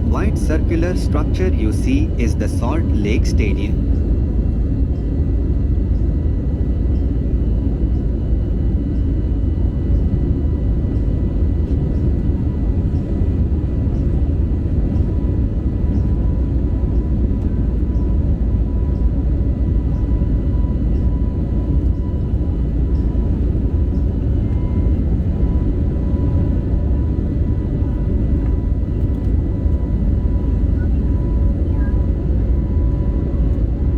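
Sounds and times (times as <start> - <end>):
deep rumble of jet engines: 0.0 - 33.9
faint steady tones: 0.0 - 33.9.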